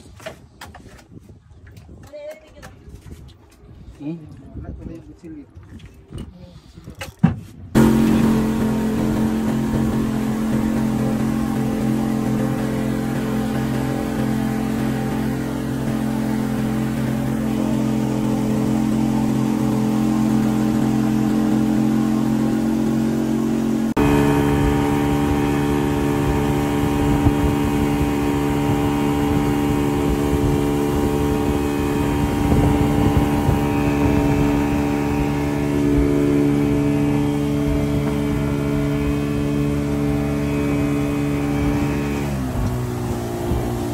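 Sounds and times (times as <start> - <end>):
outboard motor droning: 7.7 - 43.9.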